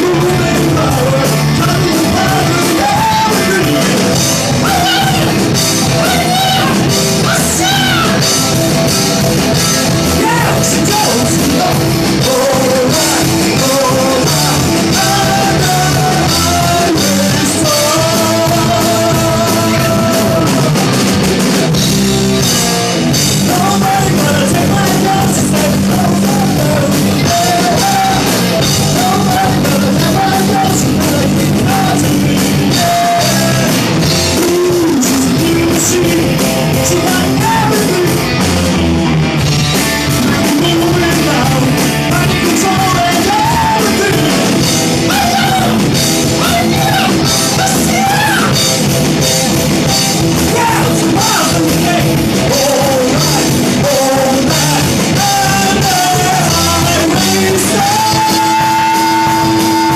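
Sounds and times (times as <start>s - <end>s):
hard rock song with singing: 0.0s - 59.9s.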